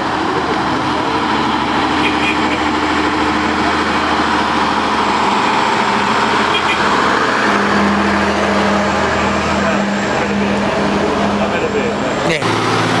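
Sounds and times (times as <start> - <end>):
truck engine running loudly: 0.0 - 13.0.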